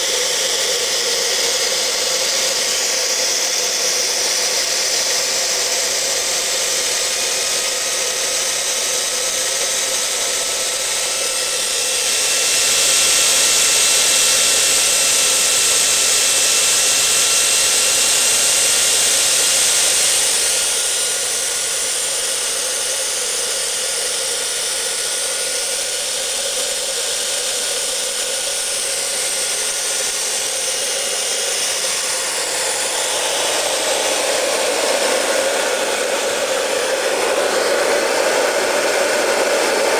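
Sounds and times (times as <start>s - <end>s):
high turbine whine: 0.0s - 39.9s
jet engine roaring: 0.0s - 39.9s.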